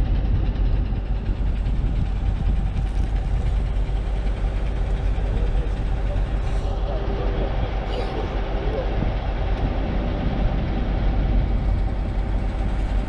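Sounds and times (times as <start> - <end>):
constant hum: 0.0 - 13.0
vehicle engine running: 0.0 - 13.0.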